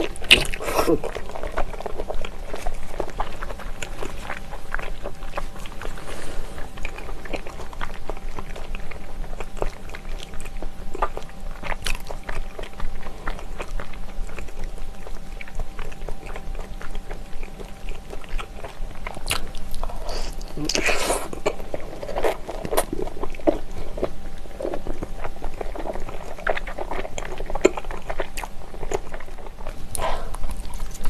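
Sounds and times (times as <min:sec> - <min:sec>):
wet chewing clicks and smacks: 0:00.0 - 0:06.0, 0:06.6 - 0:31.0.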